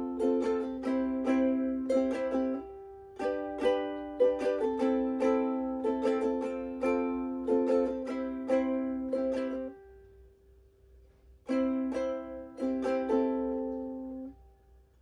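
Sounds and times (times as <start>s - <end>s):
ukulele chords strummed: 0.0s - 10.4s, 11.3s - 15.0s.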